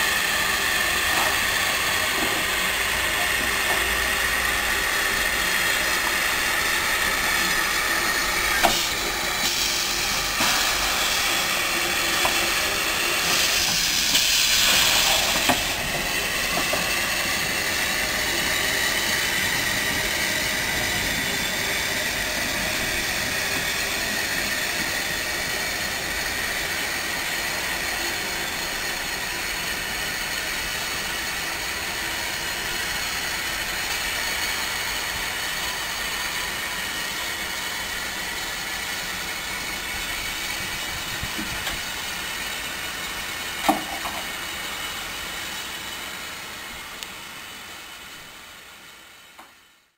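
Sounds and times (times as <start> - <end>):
burst of escaping steam: 0.0 - 49.3
steam hissing: 0.0 - 49.9.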